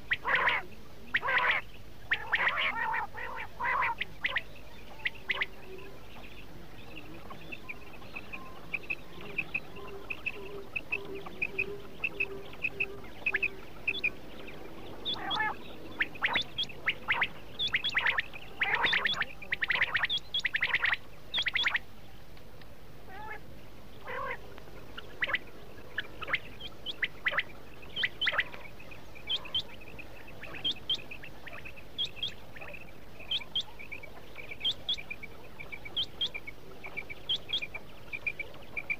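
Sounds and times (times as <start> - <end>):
quail calling: 0.0 - 6.4, 7.0 - 21.8, 23.1 - 38.9.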